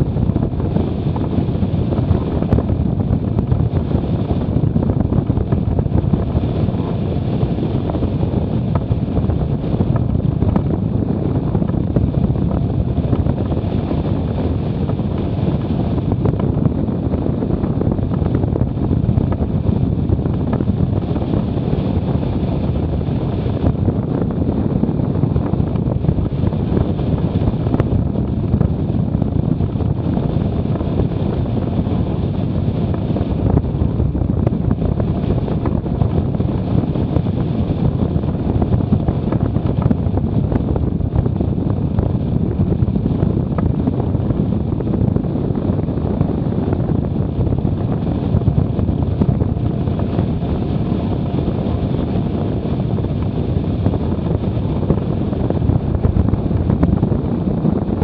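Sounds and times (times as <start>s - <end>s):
wind blowing across microphone: 0.0s - 58.0s.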